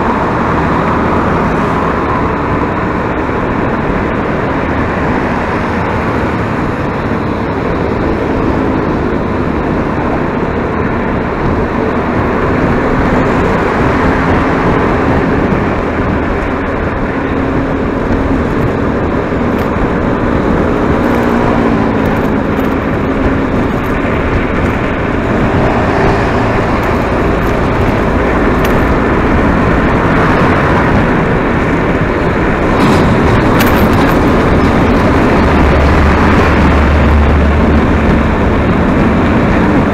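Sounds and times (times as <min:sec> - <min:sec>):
road and wind noise: 0:00.0 - 0:39.9
vehicle engine: 0:00.0 - 0:39.9.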